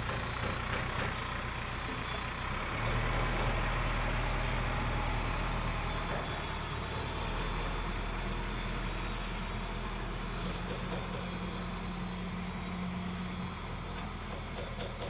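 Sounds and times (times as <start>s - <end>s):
diesel engine idling: 0.0s - 14.6s.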